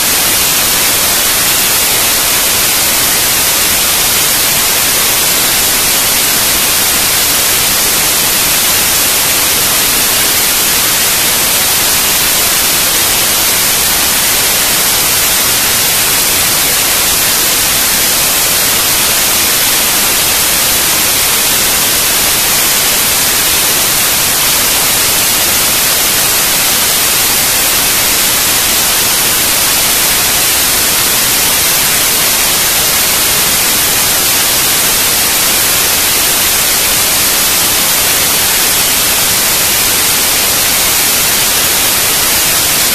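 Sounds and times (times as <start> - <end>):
static hiss: 0.0 - 42.9.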